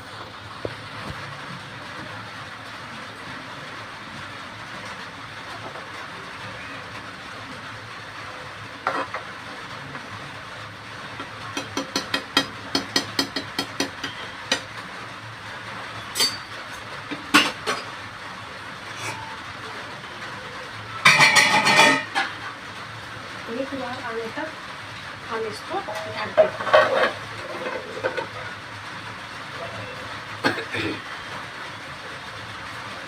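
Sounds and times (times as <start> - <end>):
pot simmering hiss: 0.0 - 33.0.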